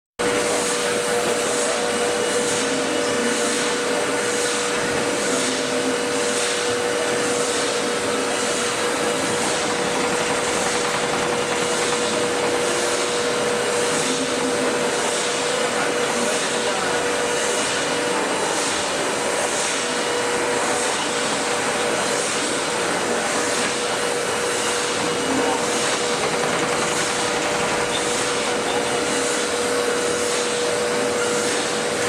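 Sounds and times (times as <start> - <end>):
engraving machine humming: 0.2 - 32.0.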